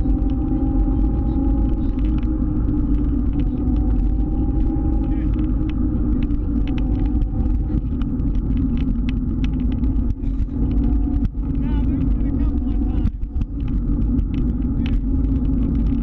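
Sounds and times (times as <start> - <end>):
motor scooter engine rumble: 0.0 - 16.0.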